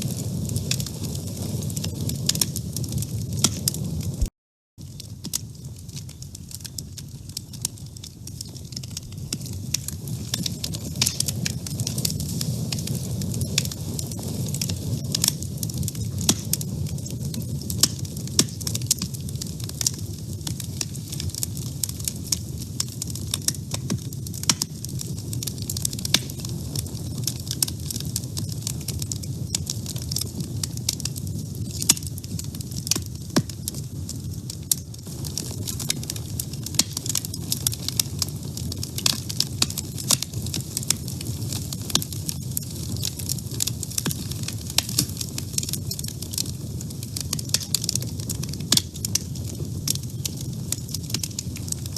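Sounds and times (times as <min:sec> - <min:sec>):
low rumble of flames: 0:00.0 - 0:51.9
wood fire crackling: 0:00.0 - 0:51.9.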